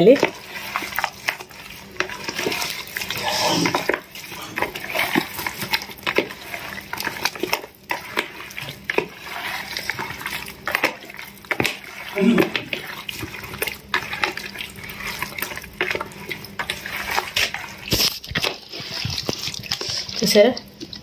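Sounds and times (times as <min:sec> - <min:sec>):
hand squelching mango pieces: 0:00.0 - 0:21.0.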